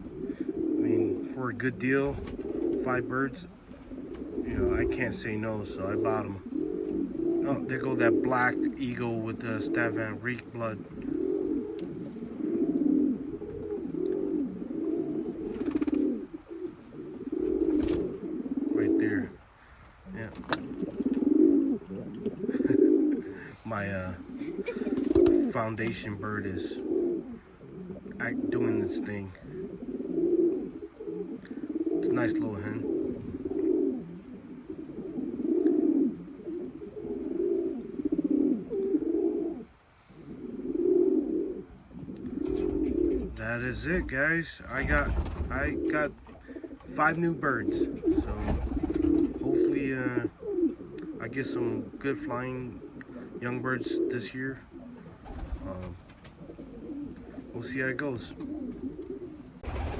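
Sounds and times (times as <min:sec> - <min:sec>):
pigeons cooing: 0:00.0 - 0:59.9
rustle: 0:00.0 - 0:59.9.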